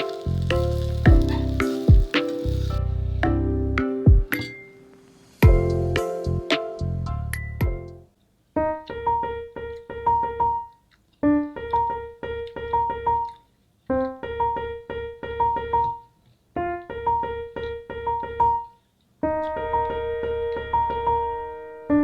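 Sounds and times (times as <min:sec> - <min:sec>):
piano music: 0:00.0 - 0:10.7, 0:11.3 - 0:13.3, 0:14.0 - 0:16.0, 0:16.6 - 0:22.0.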